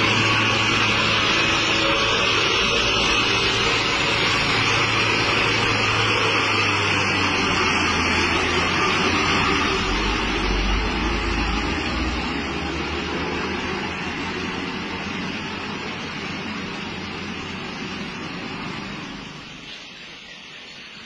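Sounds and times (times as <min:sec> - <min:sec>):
dump truck diesel engine running: 0:00.0 - 0:20.2.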